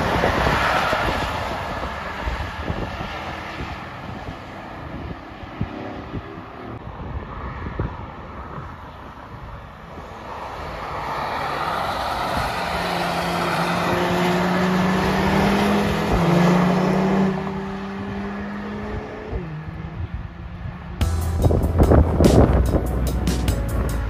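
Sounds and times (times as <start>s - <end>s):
cars accelerating past: 0.0s - 9.2s, 9.9s - 24.0s.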